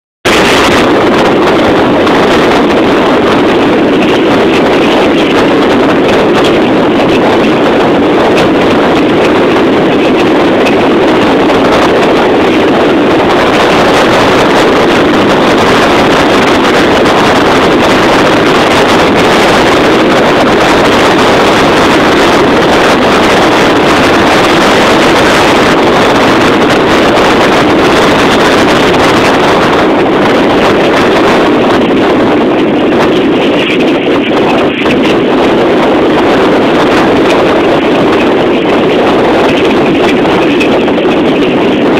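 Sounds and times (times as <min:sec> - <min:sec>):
wind buffeting microphone: 0:00.2 - 0:41.9
vehicle engine and road noise: 0:00.3 - 0:41.9.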